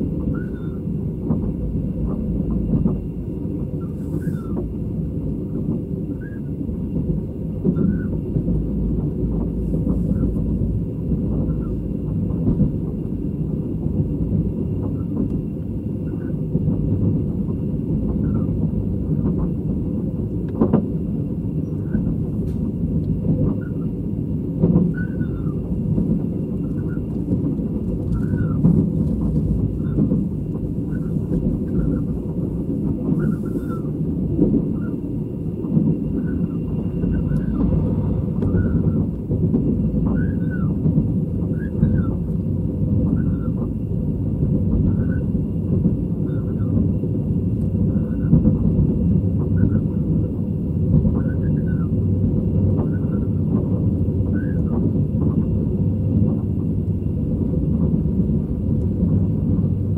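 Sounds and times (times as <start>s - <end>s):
low rumble of train wheels: 0.0s - 59.9s.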